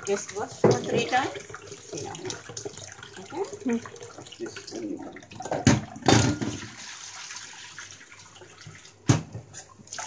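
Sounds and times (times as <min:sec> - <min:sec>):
water pouring into sink: 0:00.0 - 0:10.0
water sloshing in a saucepan: 0:00.0 - 0:10.0.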